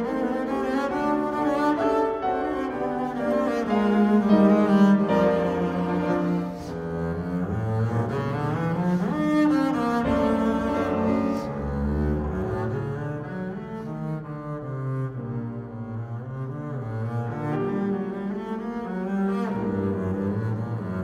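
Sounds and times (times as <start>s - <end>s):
bowed double bass melody: 0.0s - 21.0s
grand piano accompaniment: 0.0s - 21.0s.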